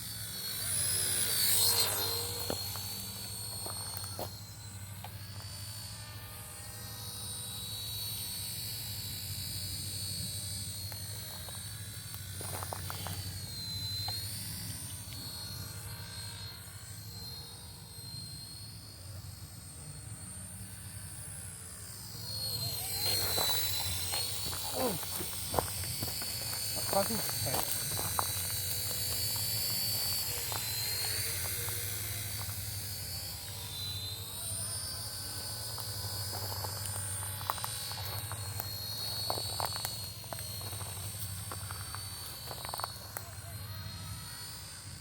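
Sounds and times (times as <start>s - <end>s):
model helicopter rotor whine: 0.0s - 45.0s.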